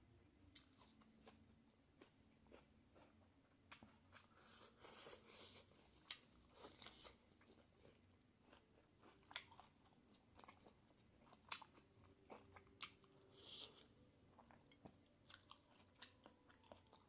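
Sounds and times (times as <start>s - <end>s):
person chewing food: 0.5s - 17.0s.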